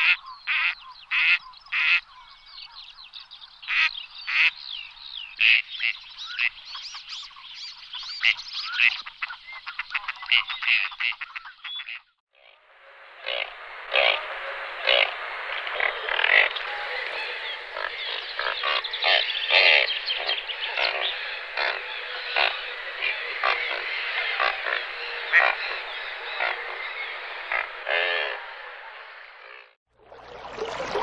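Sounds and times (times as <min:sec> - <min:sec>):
frogs croaking: 0:00.0 - 0:29.8.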